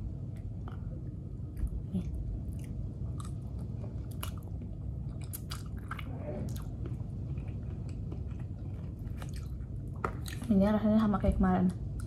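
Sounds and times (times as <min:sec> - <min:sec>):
steady low hum: 0:00.0 - 0:12.0
person chewing noodles: 0:00.2 - 0:10.5.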